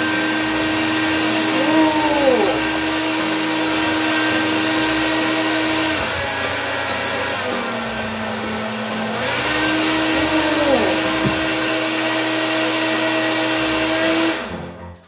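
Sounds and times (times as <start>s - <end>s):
hair dryer blowing: 0.0s - 14.6s.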